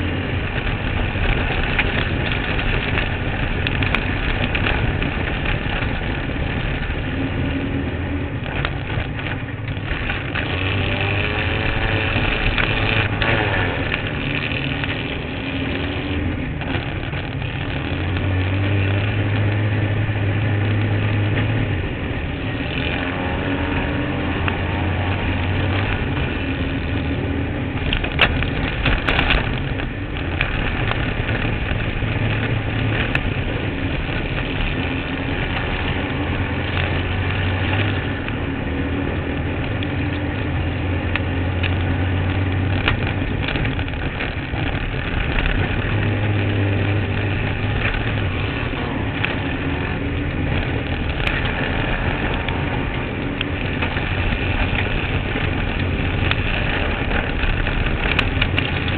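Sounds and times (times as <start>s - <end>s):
buggy engine running hard: 0.0s - 58.9s.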